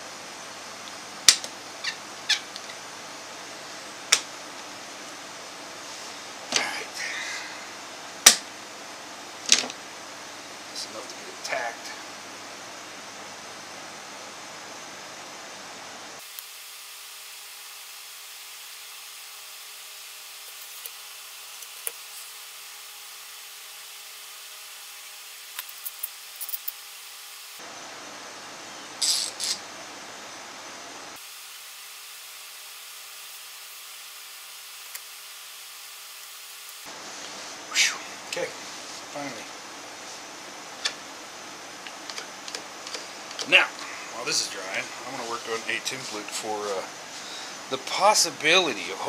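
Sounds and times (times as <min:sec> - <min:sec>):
steady hiss: 0:00.0 - 0:49.0.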